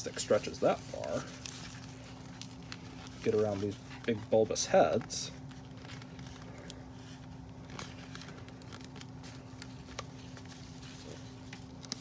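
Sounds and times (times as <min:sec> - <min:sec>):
soft rustling: 0:00.0 - 0:12.0
steady low hum: 0:00.0 - 0:12.0.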